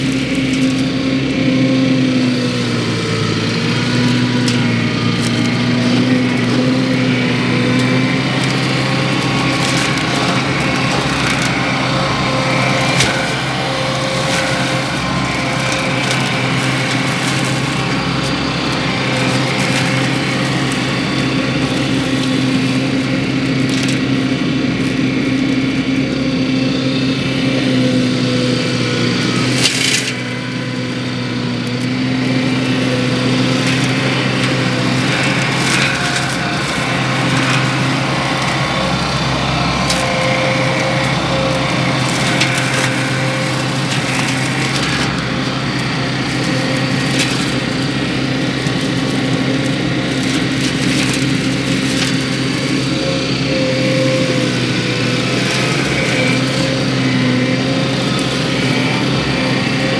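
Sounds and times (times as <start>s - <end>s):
skid steer engine at high throttle: 0.0s - 59.9s.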